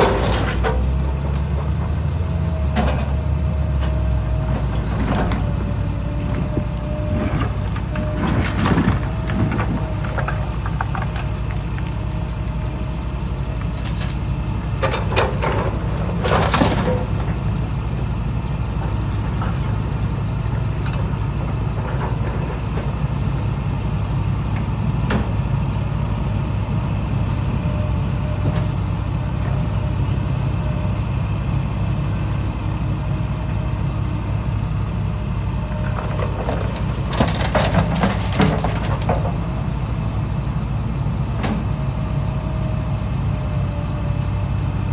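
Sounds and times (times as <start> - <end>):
diesel engine low rumble: 0.0 - 44.9.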